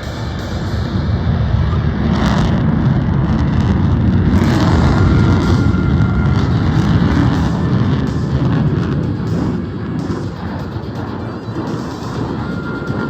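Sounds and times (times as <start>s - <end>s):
jet engine rumbling: 0.0s - 13.0s.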